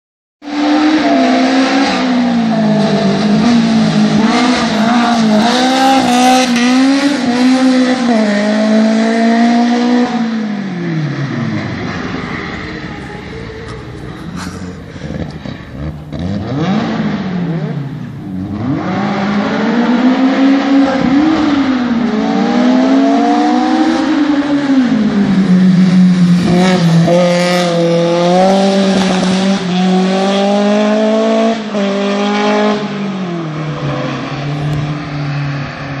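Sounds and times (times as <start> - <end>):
race engine revving hard: 0.4 - 36.0.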